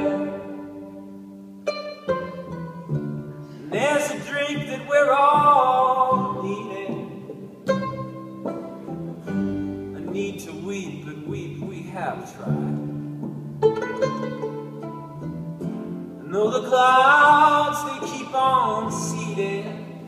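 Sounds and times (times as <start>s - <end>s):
pizzicato notes: 0.0s - 20.0s
plucked acoustic guitar: 0.0s - 20.0s
sliding melody line: 0.0s - 20.0s
upright bass: 0.0s - 20.0s.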